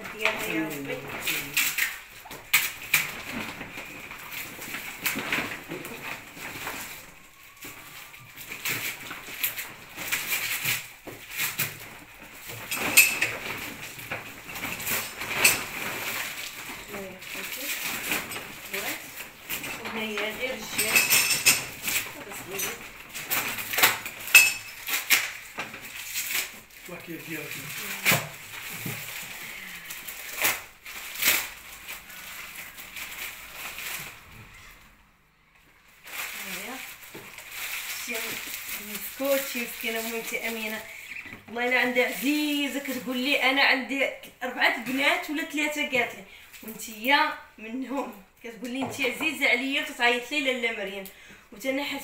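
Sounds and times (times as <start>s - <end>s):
wrapping paper crinkling: 0.0s - 48.2s
plastic bag rustling: 0.0s - 52.0s.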